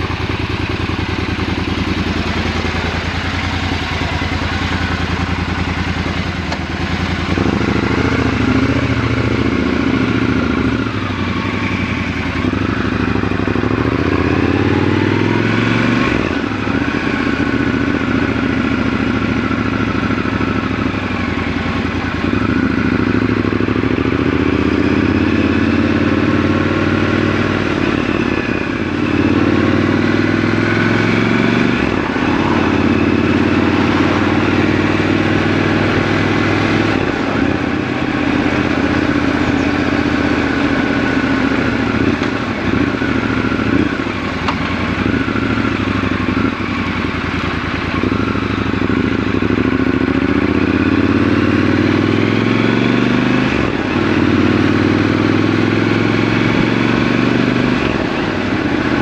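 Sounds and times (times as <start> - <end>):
motorcycle engine idling and riding: 0.0 - 59.0.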